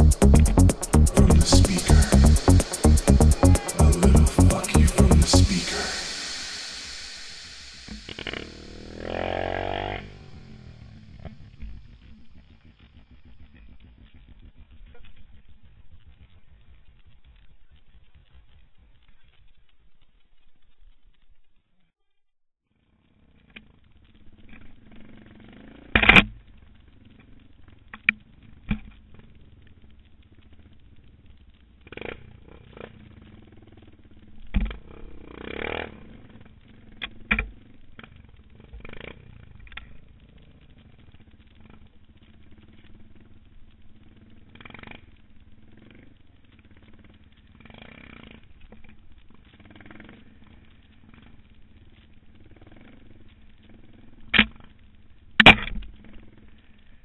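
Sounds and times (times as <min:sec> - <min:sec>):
motorcycle engine drone: 0:00.0 - 0:19.1, 0:23.1 - 0:54.9.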